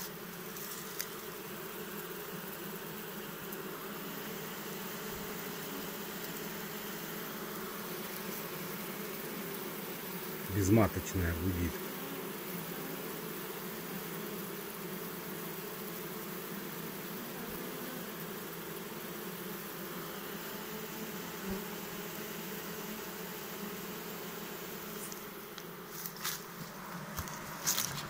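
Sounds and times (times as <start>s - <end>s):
honeybee hive humming: 0.0s - 28.0s.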